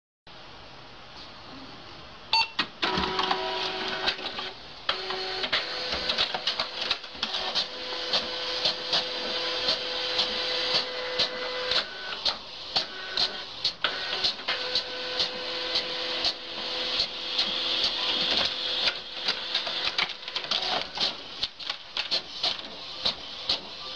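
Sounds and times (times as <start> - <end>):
regular printer clicks: 2.6 - 23.9
printer motor whirring: 2.8 - 23.9.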